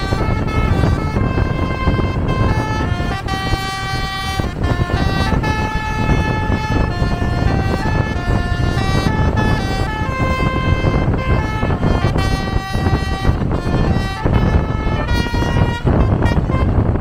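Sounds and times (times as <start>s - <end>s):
low road rumble: 0.0s - 17.0s
multi-tone air horn tune: 0.0s - 17.0s.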